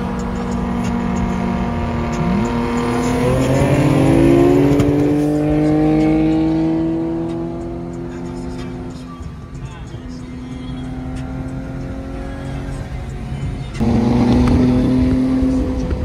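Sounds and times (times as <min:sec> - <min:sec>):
car engine accelerating: 0:00.0 - 0:09.2, 0:10.0 - 0:16.0.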